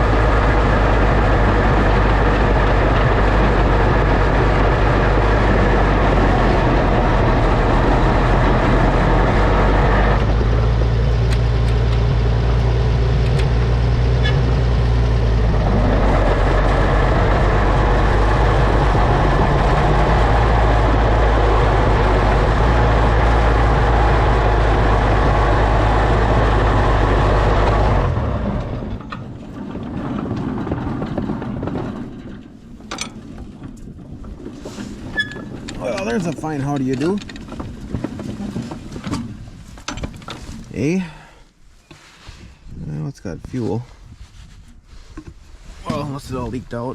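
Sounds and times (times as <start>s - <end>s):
tractor engine running: 0.0s - 42.1s.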